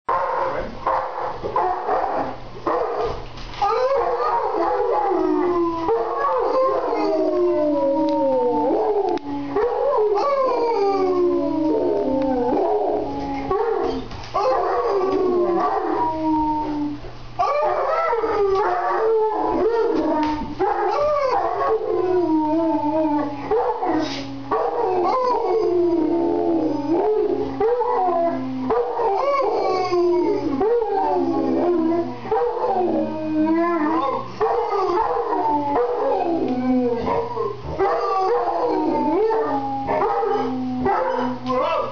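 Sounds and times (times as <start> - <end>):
dog howling: 3.6 - 41.9
man howling: 3.7 - 13.5, 14.5 - 24.0, 24.8 - 41.9.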